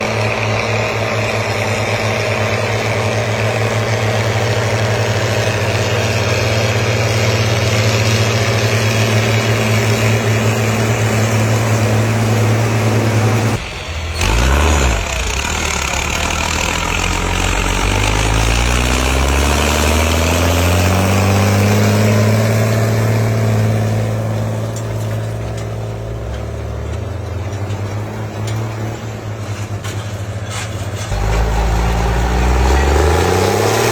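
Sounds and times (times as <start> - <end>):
engine revving up: 0.0 - 27.0, 31.1 - 33.9
tractor engines running: 0.0 - 33.9.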